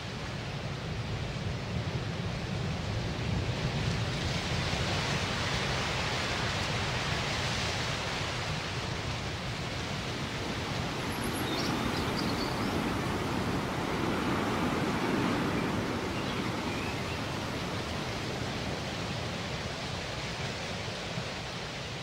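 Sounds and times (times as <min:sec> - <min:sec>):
steady rushing noise: 0:01.2 - 0:22.0.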